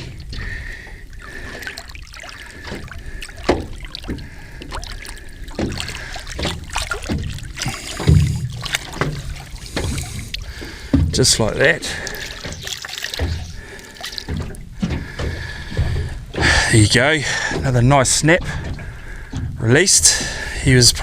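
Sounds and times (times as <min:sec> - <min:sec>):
thumps against hull: 0:00.0 - 0:21.0
water lapping against boat: 0:00.0 - 0:21.0.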